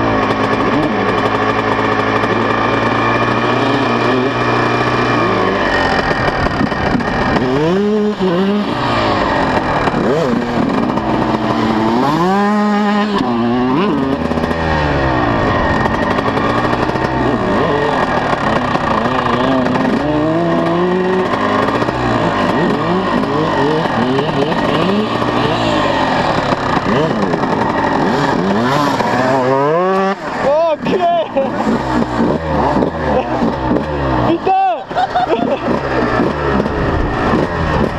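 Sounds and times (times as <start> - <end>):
motocross bikes revving: 0.0 - 37.9.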